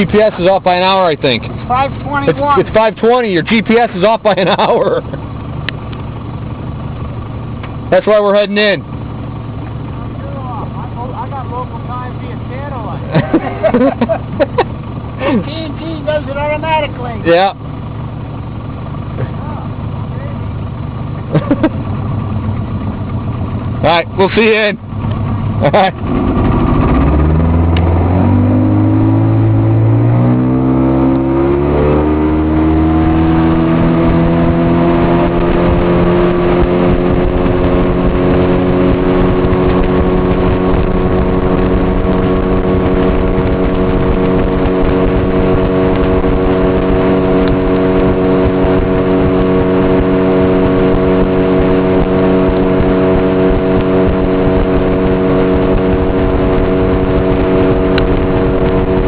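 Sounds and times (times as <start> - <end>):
boat motor throttling up: 0.0 - 59.0.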